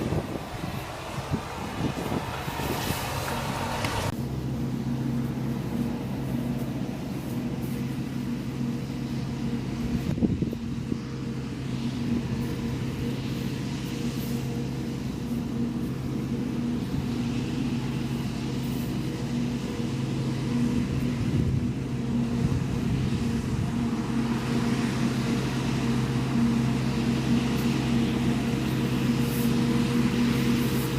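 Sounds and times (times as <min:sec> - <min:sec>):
diesel engine running steadily: 0:00.0 - 0:30.9.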